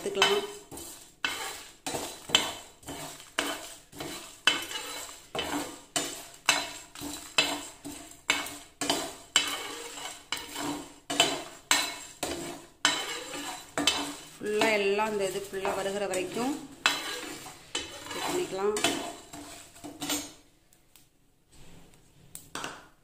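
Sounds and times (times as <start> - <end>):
metal spatula scraping pan: 0.0 - 20.5.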